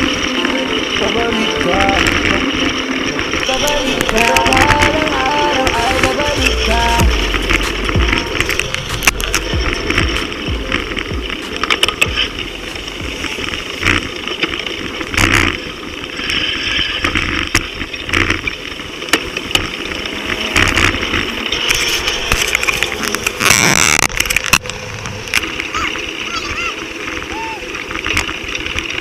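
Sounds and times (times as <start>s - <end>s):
bicycle tyre road noise: 0.0s - 29.0s
bike clicks and rattles: 0.0s - 29.0s
car and van engines: 0.0s - 29.0s.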